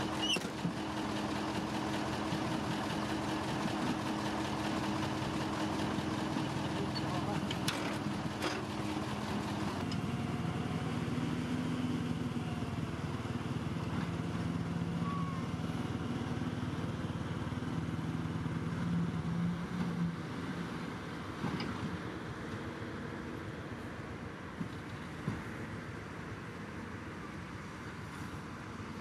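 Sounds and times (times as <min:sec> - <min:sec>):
bulldozer diesel engines droning: 0:00.0 - 0:29.0.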